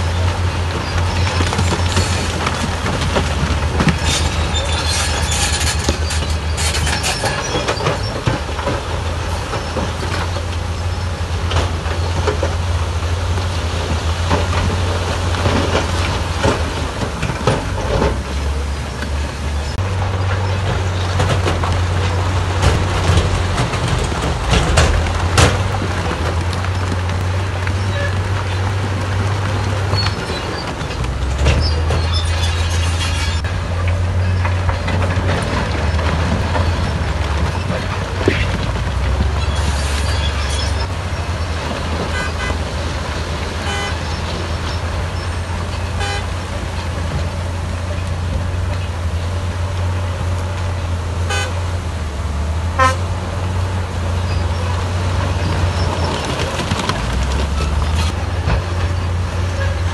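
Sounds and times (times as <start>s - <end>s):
dump truck diesel engines rumbling: 0.0s - 59.9s.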